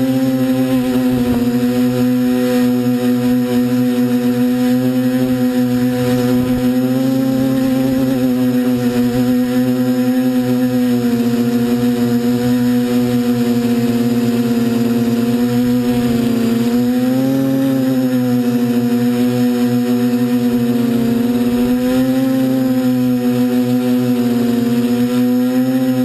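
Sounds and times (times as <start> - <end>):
quadcopter motors droning: 0.0 - 26.0.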